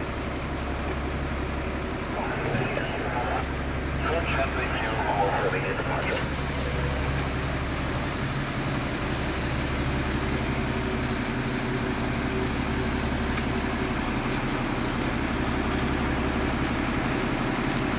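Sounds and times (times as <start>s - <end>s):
engine droning steadily: 0.0s - 17.9s.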